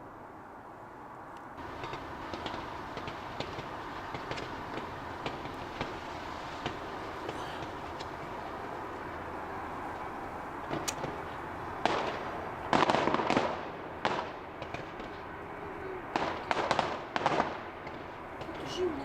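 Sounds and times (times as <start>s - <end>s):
background noise: 0.0s - 19.0s
firework bangs: 1.6s - 9.3s, 10.6s - 15.4s, 16.0s - 18.8s.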